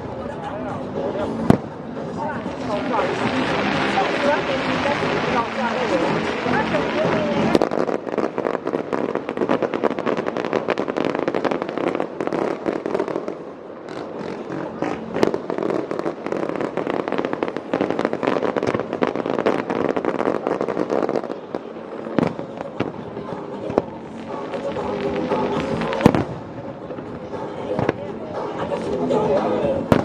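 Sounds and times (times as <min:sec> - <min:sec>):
fireworks crackling: 0:00.0 - 0:30.0
firework bang: 0:02.5 - 0:28.5.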